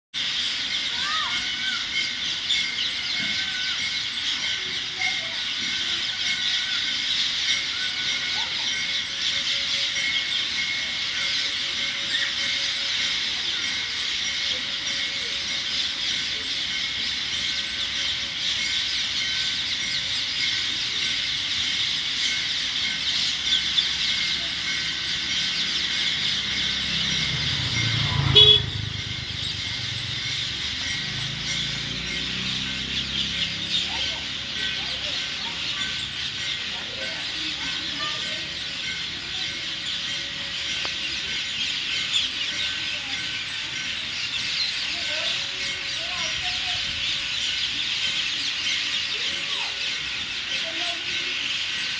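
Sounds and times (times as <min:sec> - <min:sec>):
many birds chirping: 0:00.2 - 0:51.9.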